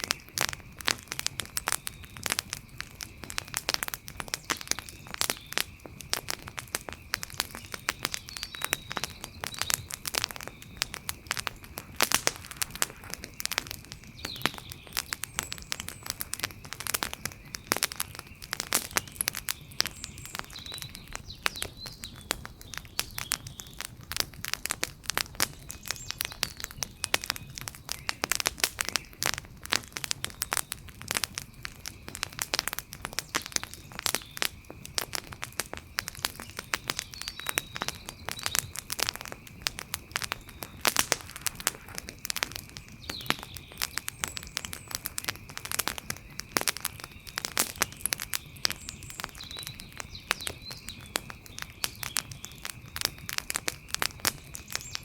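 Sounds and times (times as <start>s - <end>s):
low rumble of burning: 0.0s - 55.0s
wood fire crackling: 0.0s - 55.0s.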